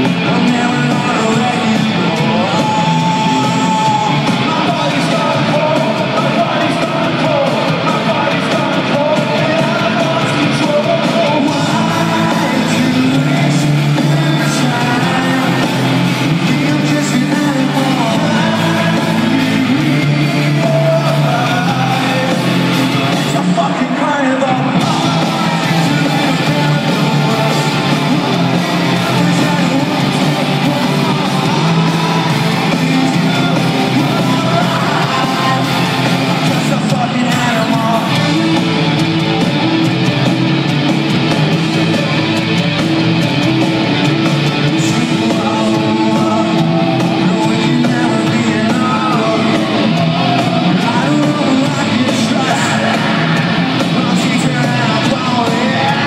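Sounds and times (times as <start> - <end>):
person singing: 0.0 - 39.6, 44.5 - 56.0
live rock band playing: 0.0 - 56.0.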